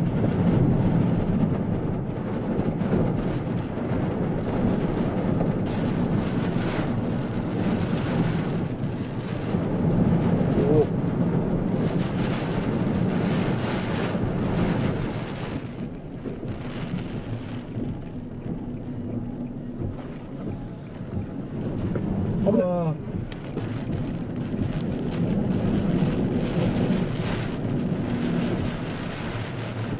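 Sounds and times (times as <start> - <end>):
strong wind gusting over microphone: 0.0 - 29.9.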